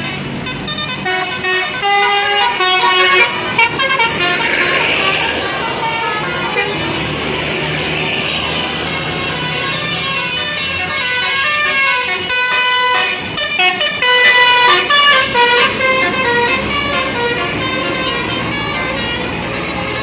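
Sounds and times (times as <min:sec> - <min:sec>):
bus rumbling past: 0:00.0 - 0:20.0
musical bus horn tune: 0:00.0 - 0:20.0.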